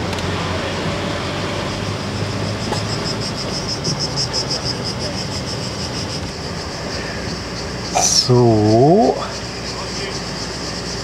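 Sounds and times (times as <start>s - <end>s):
car engine and tyre rumble: 0.0s - 11.0s
cicadas buzzing: 0.0s - 11.0s.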